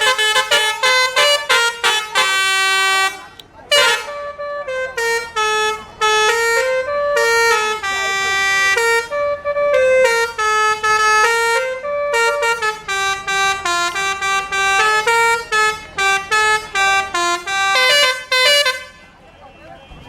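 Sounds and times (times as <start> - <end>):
multi-tone musical air horn: 0.0 - 20.0.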